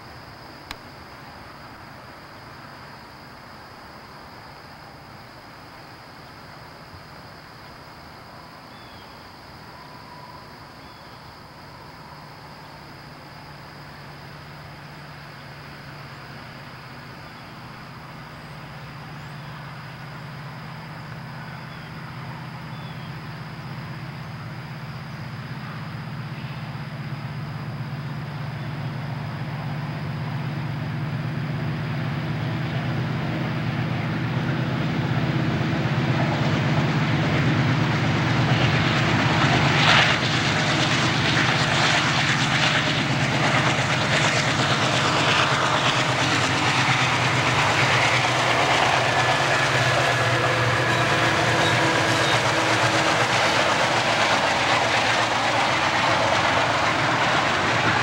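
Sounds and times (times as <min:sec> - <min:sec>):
diesel locomotive engines droning: 0:00.0 - 0:58.0
wheels rumbling on rail: 0:00.0 - 0:58.0.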